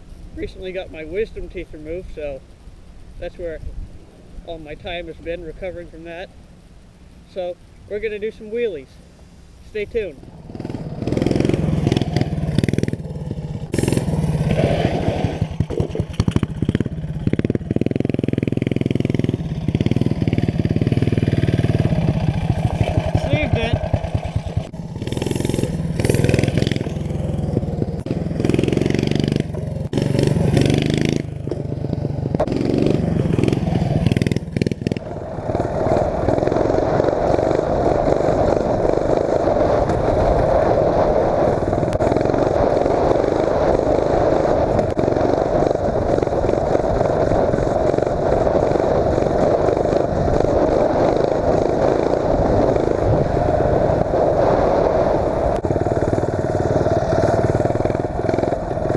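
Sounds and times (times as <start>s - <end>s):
mini bike engine revving: 10.2s - 58.9s.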